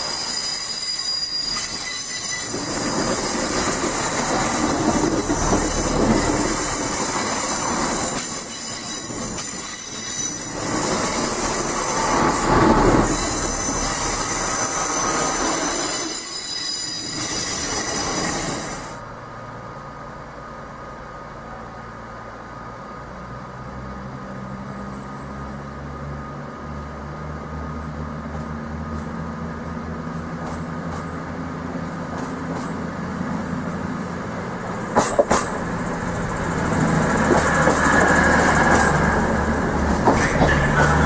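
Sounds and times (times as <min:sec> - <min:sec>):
train wheels rumbling: 0:00.0 - 0:19.1, 0:26.4 - 0:41.0
diesel train engine hum: 0:01.1 - 0:16.3, 0:17.0 - 0:41.0.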